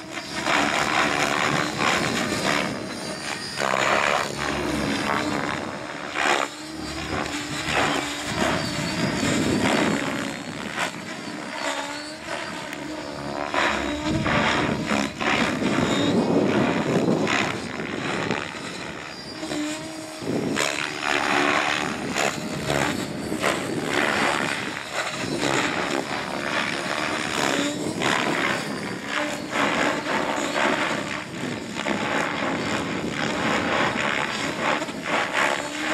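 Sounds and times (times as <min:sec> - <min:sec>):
helicopter rotor whooshing: 0:00.0 - 0:35.9
thin high whine: 0:00.0 - 0:35.9.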